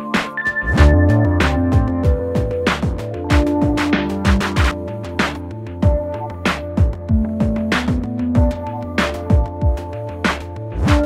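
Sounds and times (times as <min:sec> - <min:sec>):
electronic music with a beat: 0:00.0 - 0:11.0.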